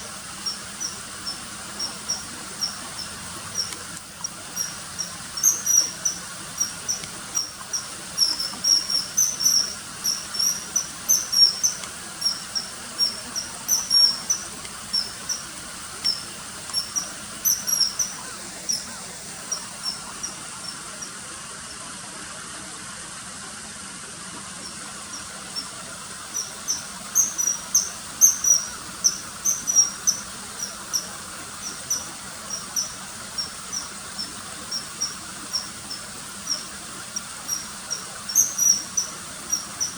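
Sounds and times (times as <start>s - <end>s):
kingfisher piping calls: 0.0s - 21.2s, 24.6s - 39.9s
faint steady hiss: 0.0s - 39.9s.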